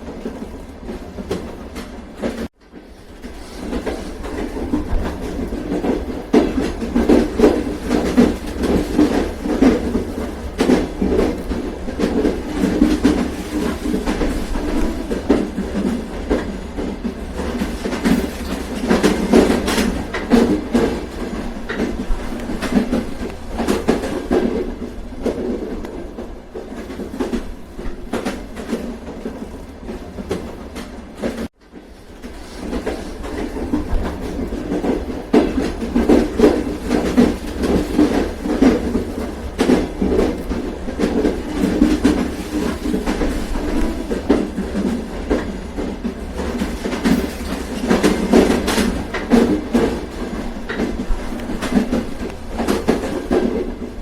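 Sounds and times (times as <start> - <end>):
train rumbling on rails: 0.0 - 54.0
wheels clacking over rail joints: 0.0 - 54.0.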